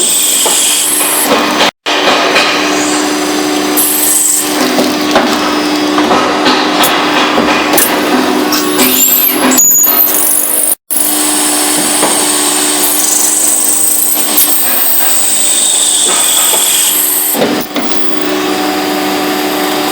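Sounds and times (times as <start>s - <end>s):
metal-machining machine humming and whining: 0.0s - 19.9s.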